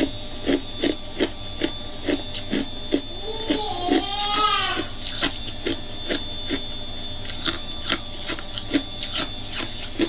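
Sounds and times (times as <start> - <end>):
ice being chewed: 0.0 - 4.4, 5.0 - 10.0.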